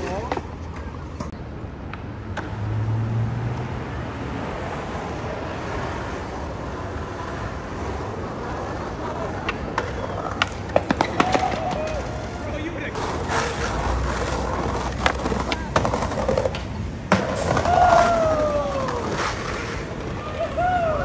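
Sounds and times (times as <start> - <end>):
passing vehicle hum: 0.0 - 20.5
steady road rumble: 0.0 - 21.0.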